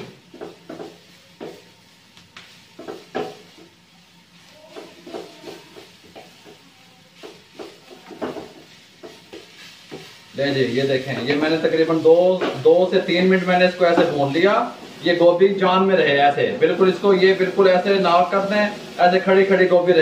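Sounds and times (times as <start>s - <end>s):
spatula scraping wok: 0.0s - 20.0s
stir-fry sizzle: 0.0s - 20.0s.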